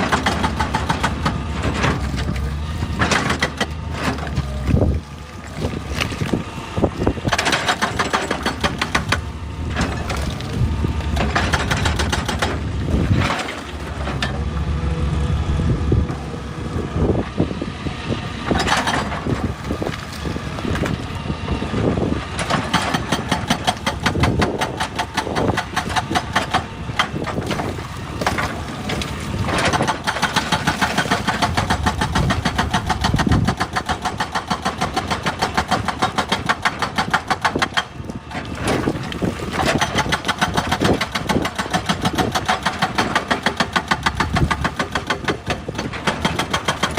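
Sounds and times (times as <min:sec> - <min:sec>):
excavator diesel engine: 0:00.0 - 0:46.9.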